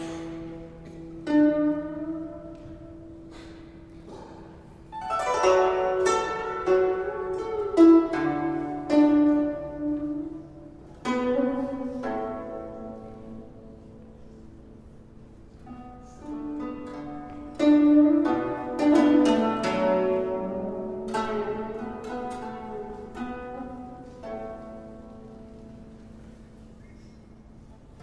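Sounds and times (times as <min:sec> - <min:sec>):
plucked string music: 0:00.0 - 0:28.0.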